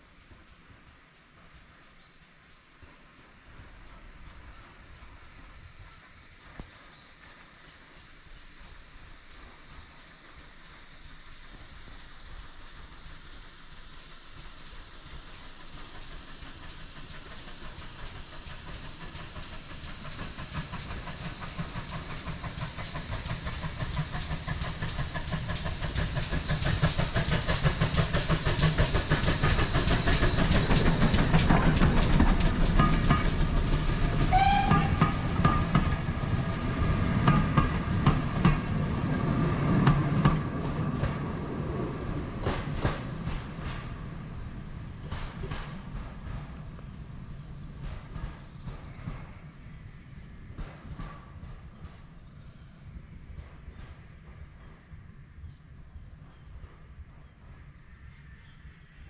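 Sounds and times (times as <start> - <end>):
steam locomotive exhaust beats: 0.0 - 59.0
train wheel clatter: 2.4 - 58.7.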